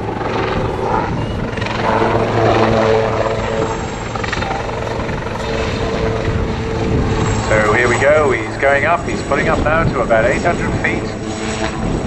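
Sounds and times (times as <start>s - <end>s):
helicopter drone overhead: 0.0s - 12.0s.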